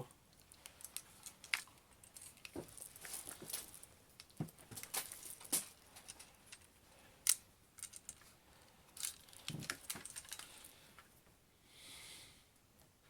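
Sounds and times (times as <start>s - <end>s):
light clicks and rustles: 0.3s - 11.1s.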